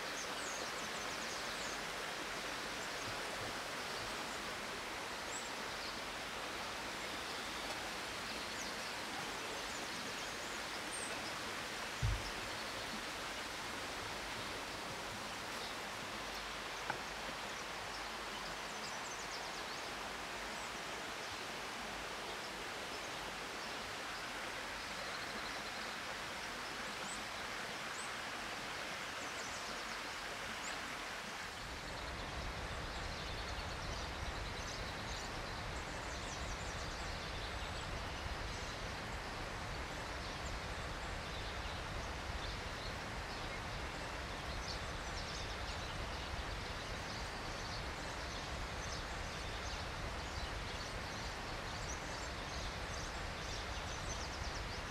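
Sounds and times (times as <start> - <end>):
hiss of leaves or water: 0.0 - 54.9.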